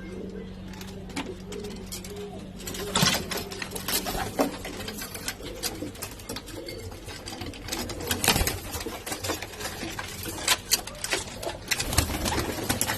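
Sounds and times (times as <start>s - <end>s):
low steady hum: 0.0s - 12.9s
pigeons clicking and tapping: 0.0s - 12.9s.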